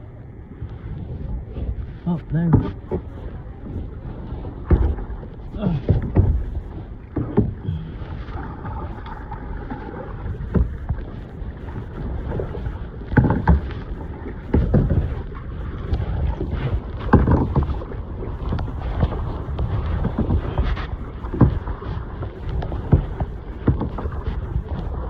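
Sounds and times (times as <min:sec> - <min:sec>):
wind buffeting microphone: 0:00.0 - 0:25.0
paddle splashing in water: 0:00.5 - 0:25.0.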